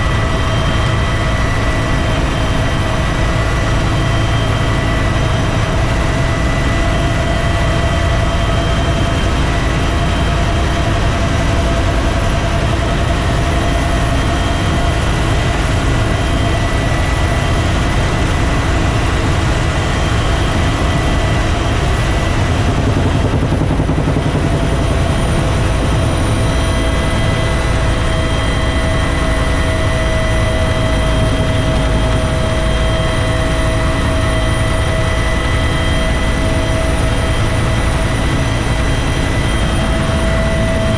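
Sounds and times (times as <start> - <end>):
helicopter rotor beat: 0.0 - 40.9
turbine engine whine: 0.0 - 40.9.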